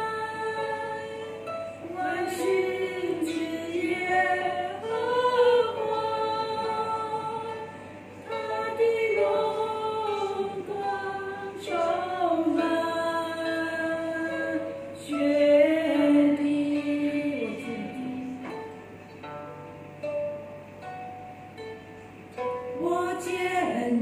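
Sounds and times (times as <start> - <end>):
women singing a hymn: 0.0 - 18.5, 22.8 - 24.0
harp: 0.0 - 24.0.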